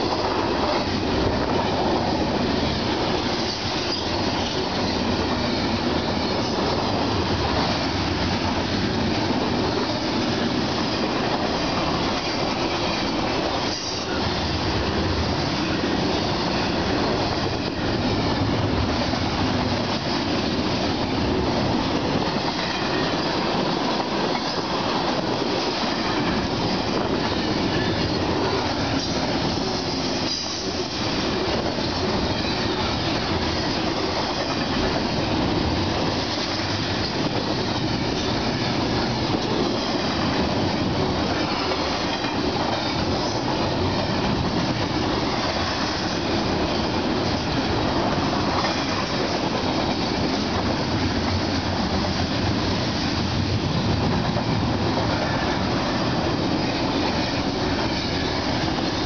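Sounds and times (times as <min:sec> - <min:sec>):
steel wheels on rail: 0:00.0 - 0:59.0.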